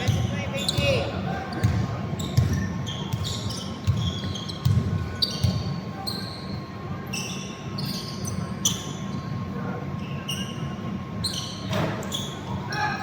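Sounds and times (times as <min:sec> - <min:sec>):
echoing hall hubbub: 0:00.0 - 0:13.0
sneakers squeaking: 0:00.0 - 0:13.0.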